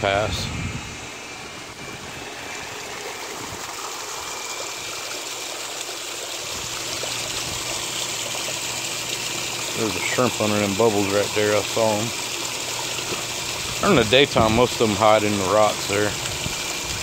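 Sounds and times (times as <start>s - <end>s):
low steady hum: 0.0s - 17.0s
water splashing into pond: 1.5s - 17.0s.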